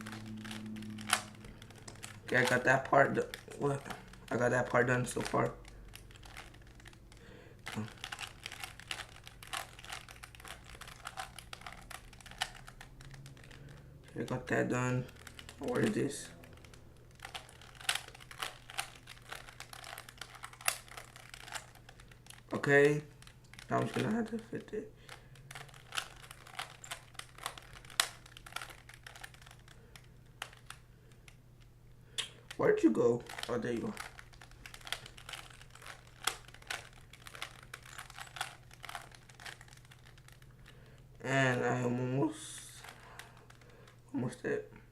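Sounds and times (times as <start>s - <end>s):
puzzle cube plastic clicks: 0.0s - 32.6s, 33.2s - 41.6s, 42.7s - 44.0s.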